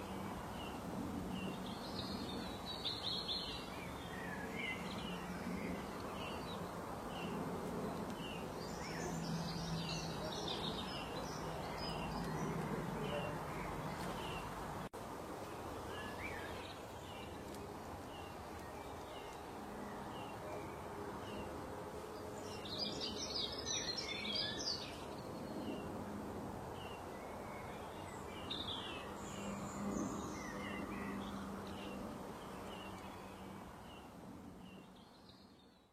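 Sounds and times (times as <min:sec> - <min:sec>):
steady background hiss: 0:00.0 - 0:35.6.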